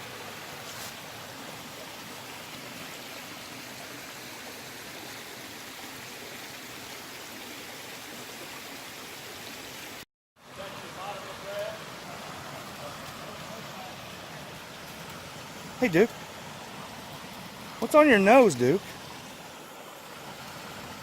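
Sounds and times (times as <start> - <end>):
running water rushing: 0.0 - 21.0.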